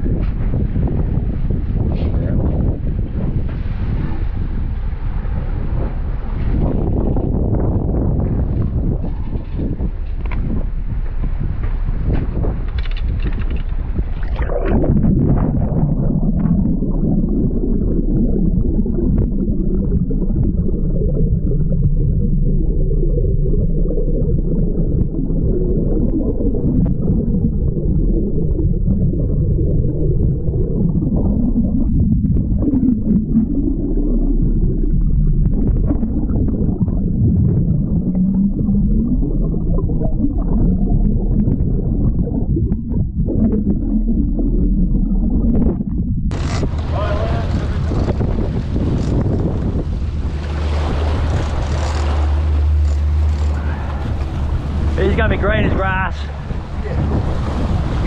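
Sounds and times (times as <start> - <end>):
underwater water rumbling and gurgling: 0.0 - 58.0.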